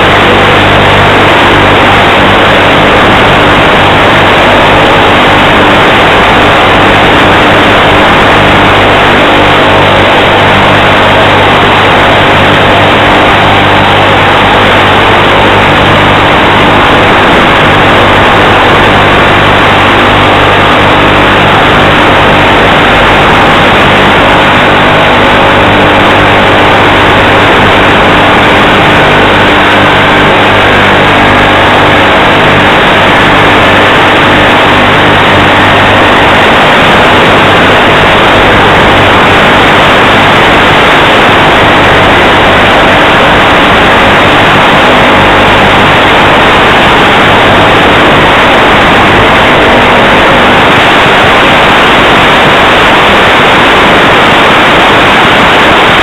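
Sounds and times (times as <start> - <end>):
model airplane motor and propeller: 0.0 - 56.0.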